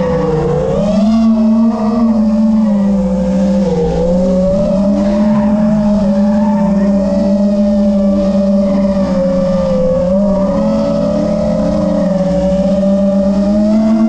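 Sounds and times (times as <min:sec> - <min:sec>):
faint vehicle engines: 0:00.0 - 0:14.0
quadcopter motors whining: 0:00.0 - 0:14.0.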